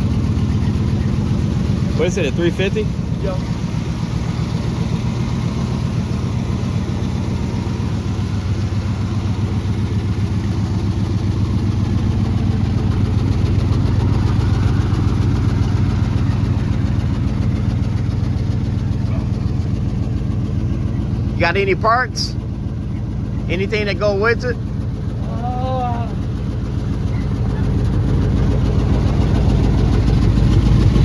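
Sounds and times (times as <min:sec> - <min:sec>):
pickup engine idling: 0:00.0 - 0:31.0.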